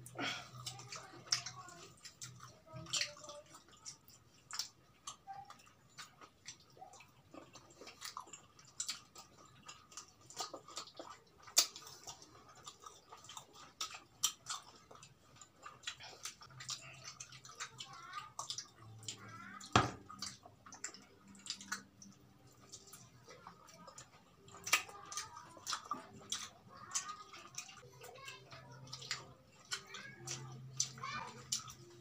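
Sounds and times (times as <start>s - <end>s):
chewing and mouth smacking: 0.0s - 32.0s.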